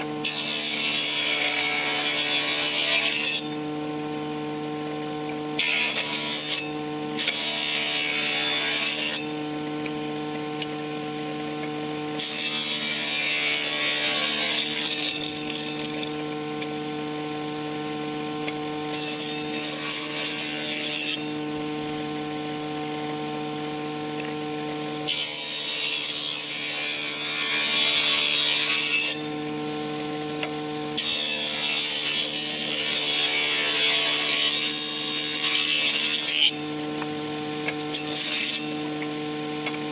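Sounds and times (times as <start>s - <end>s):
power tool cutting wood: 0.0s - 4.2s, 5.3s - 10.4s, 11.8s - 39.9s.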